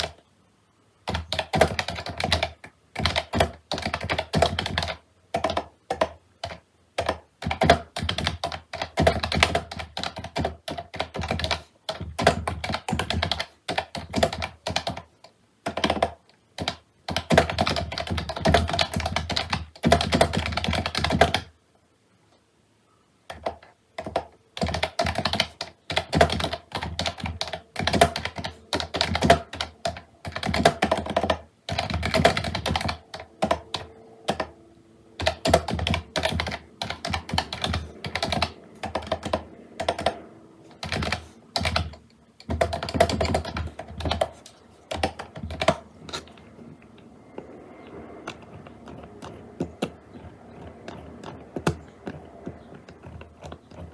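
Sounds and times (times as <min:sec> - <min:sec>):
computer keyboard typing: 0:00.0 - 0:00.3, 0:01.0 - 0:21.6, 0:23.3 - 0:53.9.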